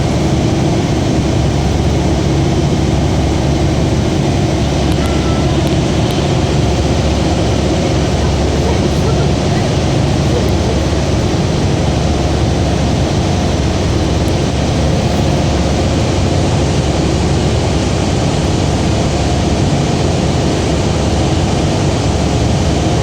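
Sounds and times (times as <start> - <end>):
hovercraft engines droning: 0.0 - 23.0.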